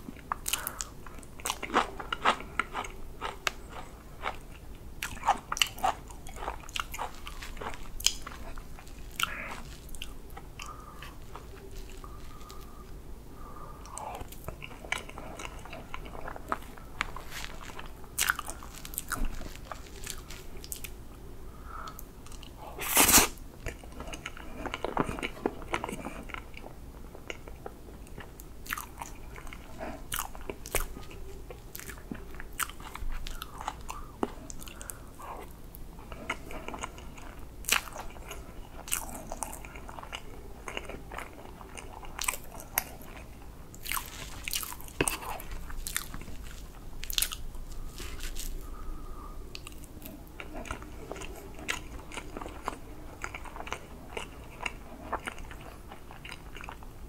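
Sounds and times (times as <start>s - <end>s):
wet chewing: 0.1s - 21.0s, 21.8s - 56.9s.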